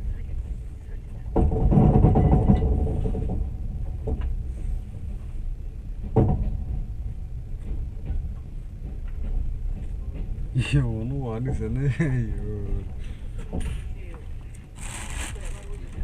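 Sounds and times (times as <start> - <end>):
train rumble inside carriage: 0.0 - 16.0.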